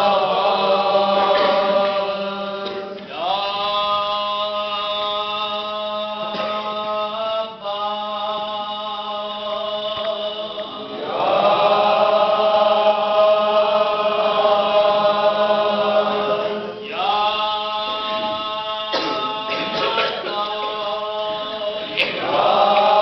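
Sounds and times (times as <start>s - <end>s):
men chanting in unison: 0.0s - 23.0s.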